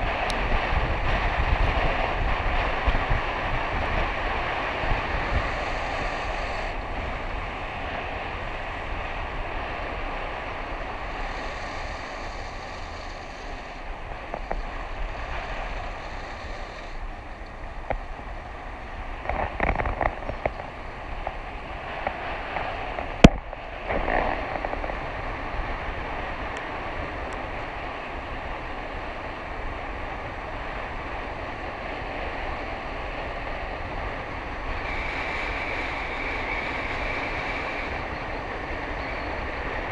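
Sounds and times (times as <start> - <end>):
skate wheels rolling on wet asphalt: 0.0 - 39.9
wind on microphone: 0.0 - 39.9.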